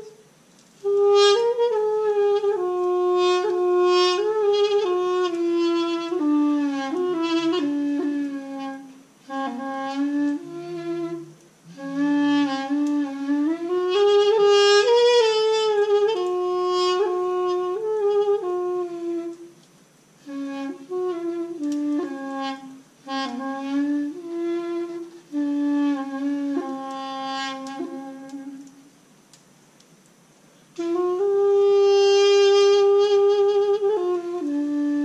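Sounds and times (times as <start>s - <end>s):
double-reed woodwind melody: 0.0s - 29.0s, 30.7s - 35.0s.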